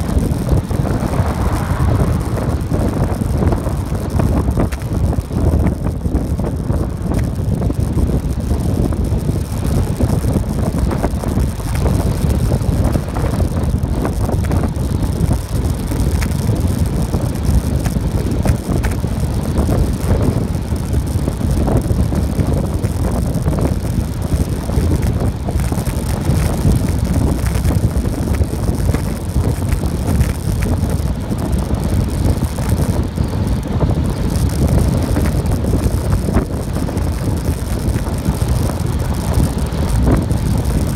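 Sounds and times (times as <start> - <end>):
wheels rolling on asphalt: 0.0 - 40.9
wind buffeting microphone: 0.0 - 40.9.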